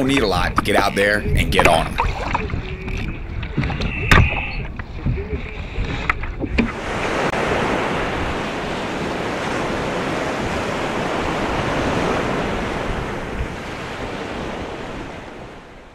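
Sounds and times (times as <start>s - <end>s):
waves washing onto beach: 0.0s - 15.9s
wind buffeting microphone: 0.0s - 15.9s.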